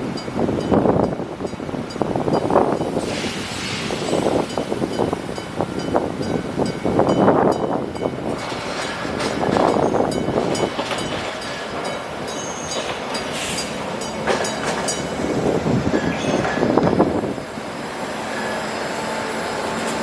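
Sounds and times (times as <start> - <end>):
train rumbling on track: 0.0 - 20.0
rail clicks: 0.1 - 20.0.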